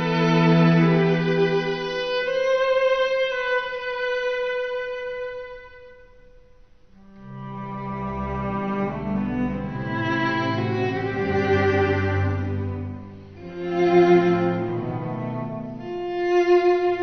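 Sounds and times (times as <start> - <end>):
slow bowed violin music: 0.0 - 17.0.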